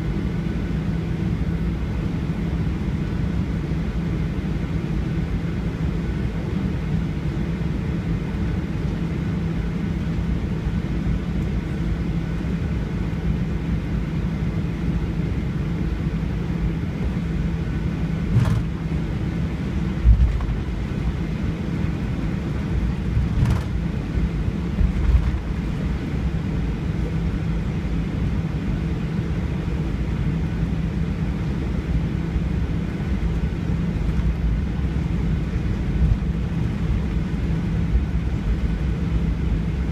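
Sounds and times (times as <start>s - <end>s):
faint hum: 0.0s - 39.9s
jet engines low rumble: 0.0s - 39.9s.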